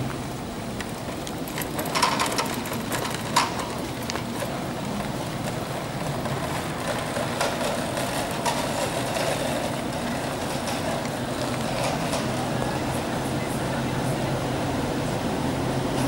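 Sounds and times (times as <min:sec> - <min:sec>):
tram running rumble: 0:00.0 - 0:16.0.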